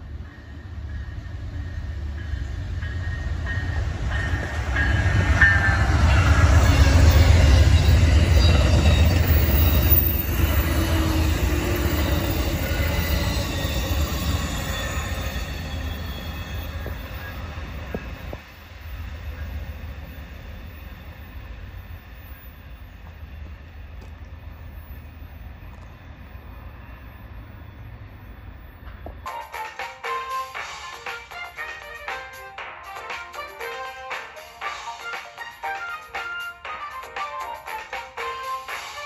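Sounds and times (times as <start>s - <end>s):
train cars running on rails: 0.0s - 39.0s.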